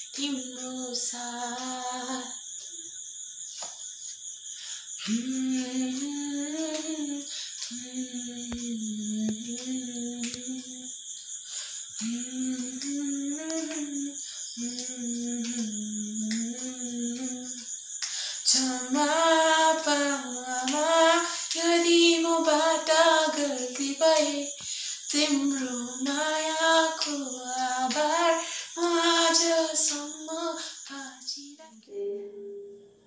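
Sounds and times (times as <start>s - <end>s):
boy singing unaccompanied: 0.1s - 2.3s, 5.1s - 10.9s, 12.0s - 17.6s, 18.5s - 32.7s.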